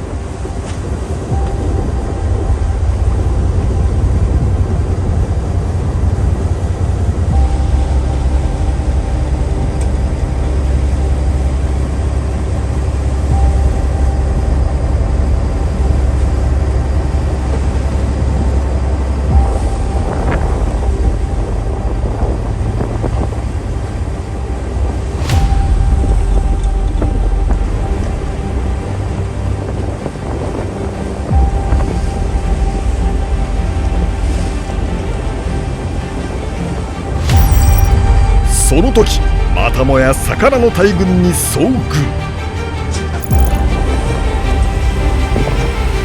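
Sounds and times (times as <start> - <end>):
boat engine rumbling: 0.0 - 46.0.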